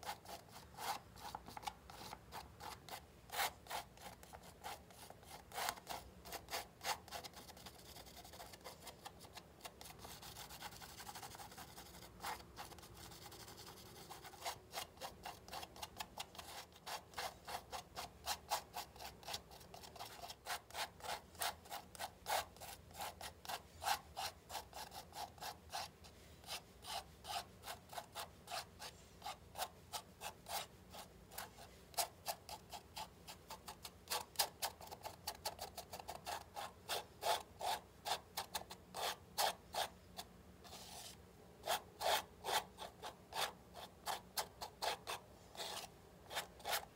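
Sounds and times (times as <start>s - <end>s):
palette knife scraping paint on canvas: 0.0s - 46.9s.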